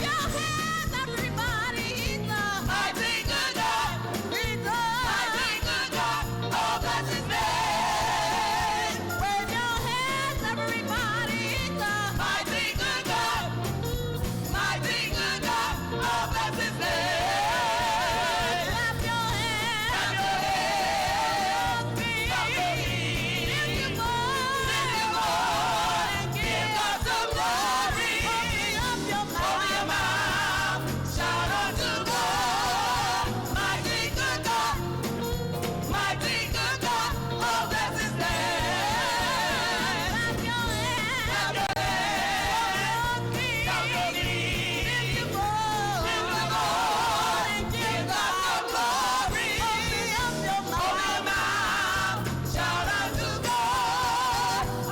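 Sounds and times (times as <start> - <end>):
band bass accompaniment: 0.0 - 54.9
gospel singing with vibrato: 0.0 - 54.9.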